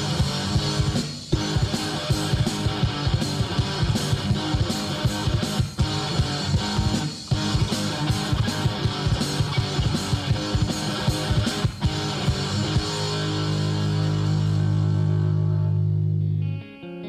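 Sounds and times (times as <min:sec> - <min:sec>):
fast drums: 0:00.0 - 0:15.4
electric guitar: 0:00.0 - 0:17.0.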